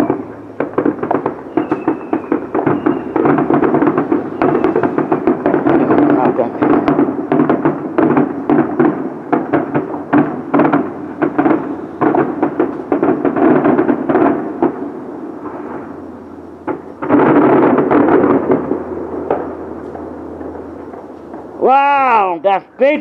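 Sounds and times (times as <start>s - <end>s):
fireworks crackling bangs: 0.0s - 23.0s.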